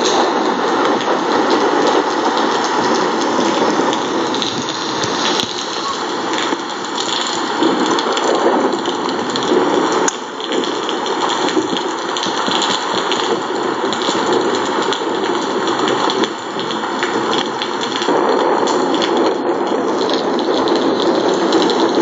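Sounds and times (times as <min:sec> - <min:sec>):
steady rain pattering: 0:00.0 - 0:22.0.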